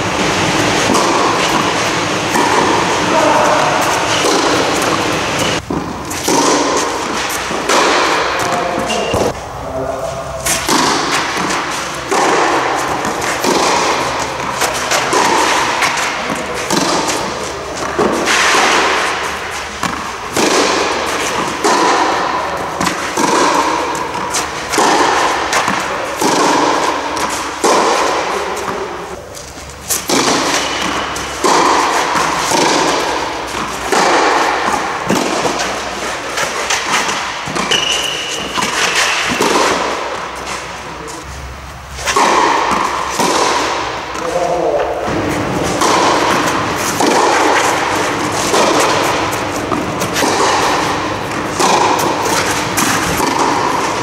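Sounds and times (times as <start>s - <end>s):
racquets hitting tennis ball: 0.0s - 54.0s.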